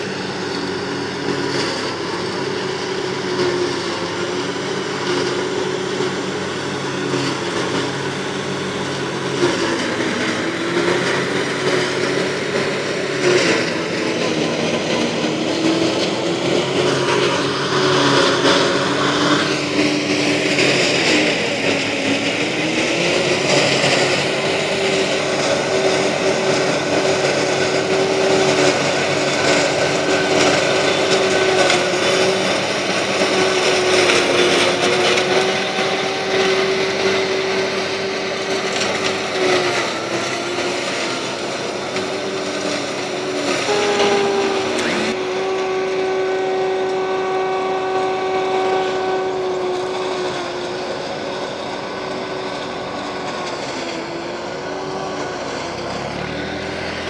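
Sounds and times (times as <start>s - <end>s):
forage harvester whirring hum: 0.0s - 57.0s
tractor engine under load: 0.0s - 57.0s.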